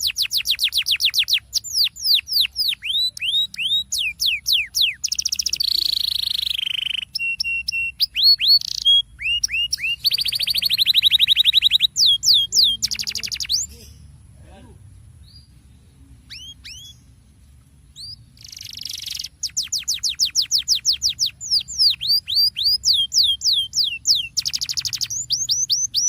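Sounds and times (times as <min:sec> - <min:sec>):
canary singing: 0:00.0 - 0:14.2, 0:15.2 - 0:26.0.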